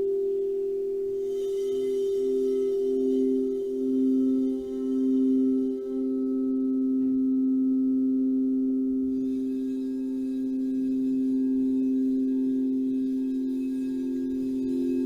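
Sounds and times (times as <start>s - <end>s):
singing bowls ringing: 0.0s - 15.0s.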